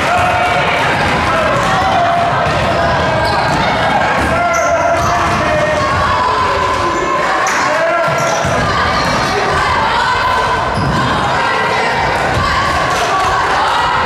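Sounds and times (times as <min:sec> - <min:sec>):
people calling out: 0:00.0 - 0:14.0.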